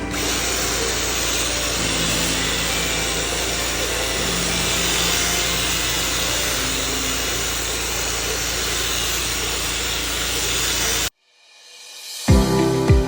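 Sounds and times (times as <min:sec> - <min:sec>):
vacuum cleaner running: 0:00.0 - 0:11.1.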